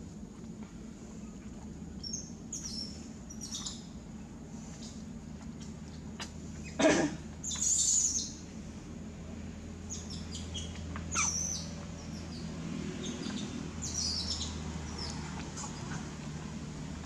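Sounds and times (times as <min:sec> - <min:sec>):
low background rumble: 0:00.0 - 0:17.0
birds chirping: 0:00.7 - 0:08.8, 0:09.4 - 0:17.0.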